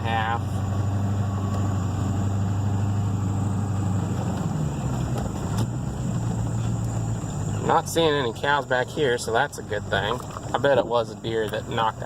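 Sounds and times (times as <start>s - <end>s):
pickup truck engine humming: 0.0s - 12.0s.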